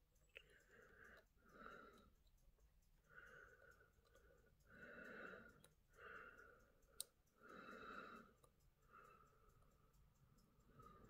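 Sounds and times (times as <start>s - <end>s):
soft breathing: 0.2s - 11.0s.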